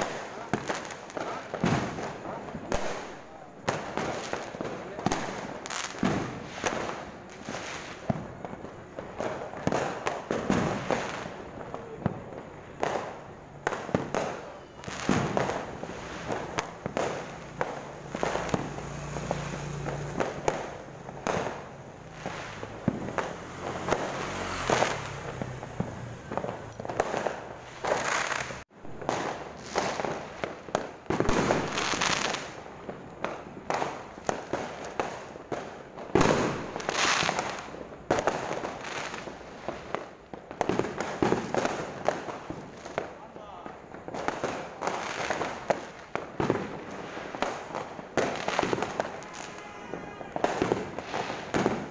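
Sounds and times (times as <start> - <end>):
fireworks banging and crackling: 0.0 - 51.9
loud firework booms: 0.0 - 51.9.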